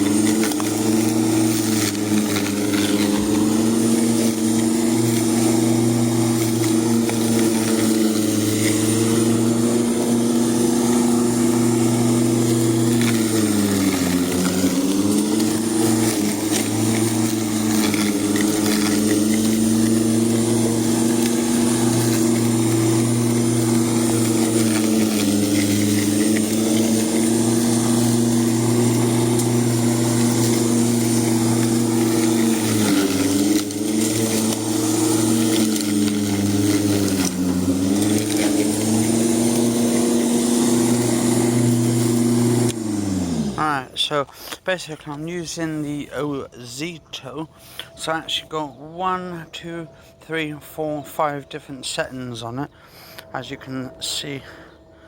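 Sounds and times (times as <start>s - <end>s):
lawn mower cutting grass: 0.0s - 55.0s.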